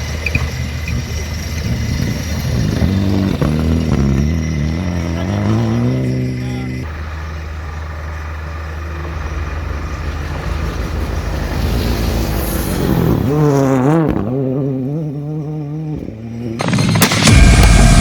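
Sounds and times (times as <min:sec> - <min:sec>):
rally car engine: 0:00.0 - 0:18.0
road noise: 0:00.0 - 0:18.0.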